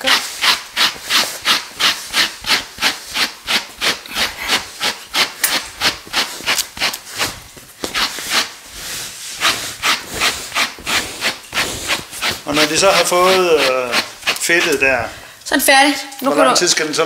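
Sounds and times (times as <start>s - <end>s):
brush scratching through wool: 0.0s - 15.0s.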